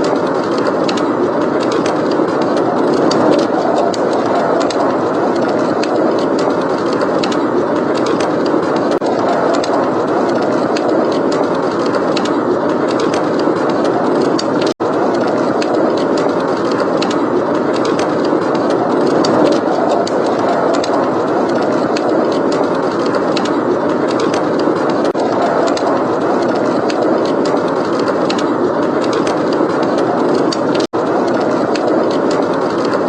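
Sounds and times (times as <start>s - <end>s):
wind rushing: 0.0s - 33.0s
wood fire crackling: 0.0s - 33.0s.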